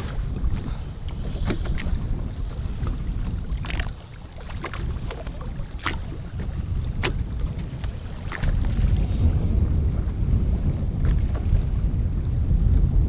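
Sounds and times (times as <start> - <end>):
water slapping boat side: 0.0 - 13.0
wind buffeting microphone: 0.0 - 13.0.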